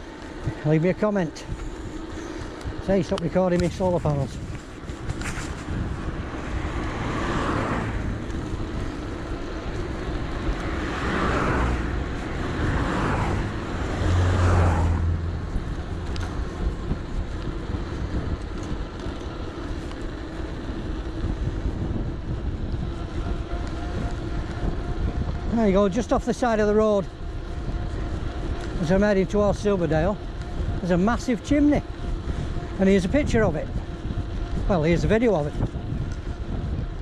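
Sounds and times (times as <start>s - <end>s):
cars passing: 0.0s - 37.0s
wind and road rumble: 0.0s - 37.0s.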